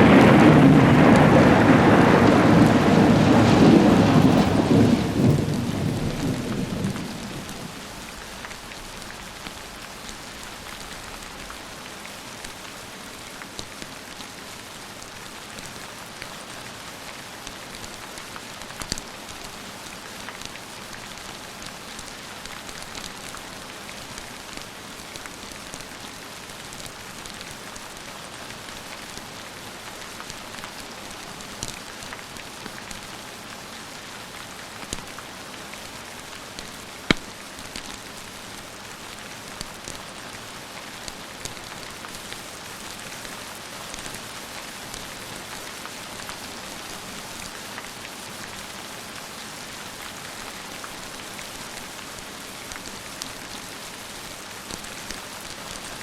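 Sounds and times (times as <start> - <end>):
fireplace crackles: 0.0 - 56.0
rain hissing: 0.0 - 56.0.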